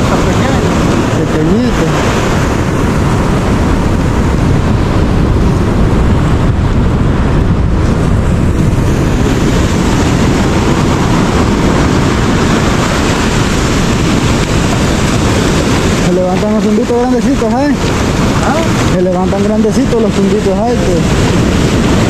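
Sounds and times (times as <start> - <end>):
surf breaking on sand beach: 0.0 - 22.0
wind buffeting microphone: 0.0 - 22.0.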